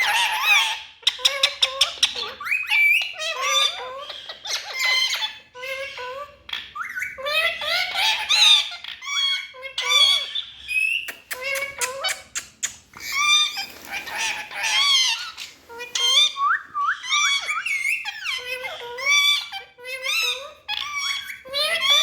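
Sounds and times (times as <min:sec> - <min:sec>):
parrots squawking and chirping: 0:00.0 - 0:22.0.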